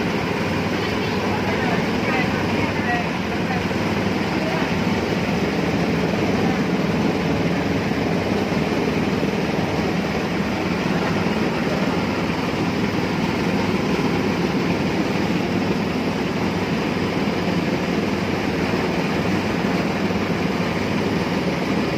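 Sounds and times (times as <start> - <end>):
grinding machine running: 0.0 - 21.9.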